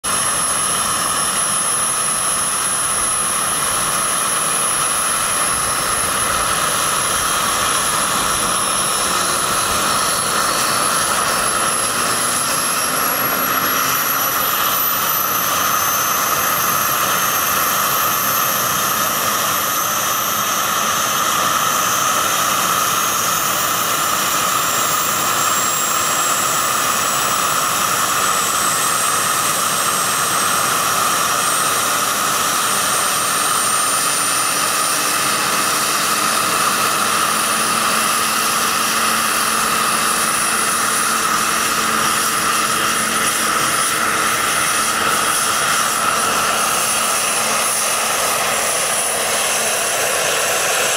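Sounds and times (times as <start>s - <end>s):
gas turbine rushing: 0.0s - 50.9s
high turbine whine: 0.0s - 50.9s.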